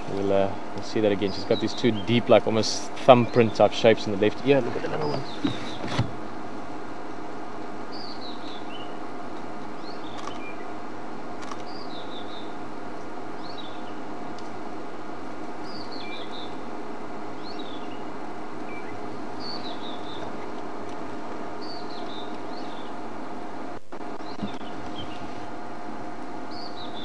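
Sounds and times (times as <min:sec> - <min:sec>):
songbird singing: 0:00.0 - 0:06.0, 0:07.1 - 0:27.0
low hum: 0:00.0 - 0:27.0.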